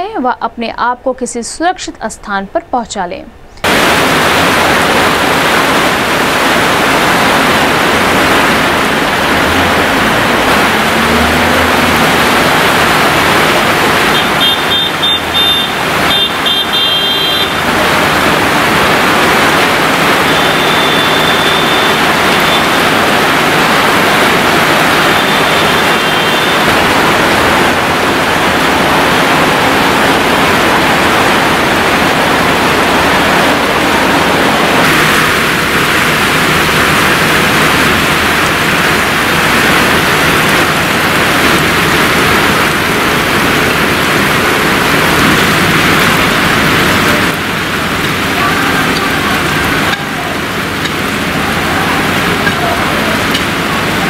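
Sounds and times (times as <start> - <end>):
heavy rain pouring: 3.6 - 54.0.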